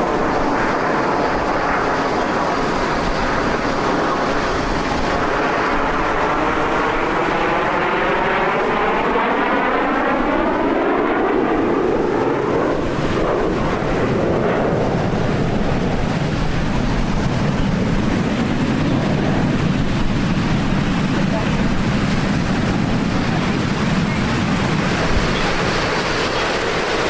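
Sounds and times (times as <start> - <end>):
jet aircraft flying past: 0.0 - 27.0.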